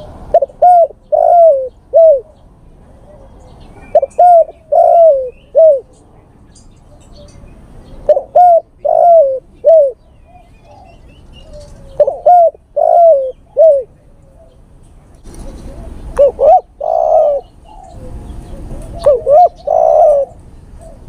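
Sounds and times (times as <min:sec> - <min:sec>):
dove cooing: 0:00.0 - 0:06.3, 0:06.9 - 0:21.0.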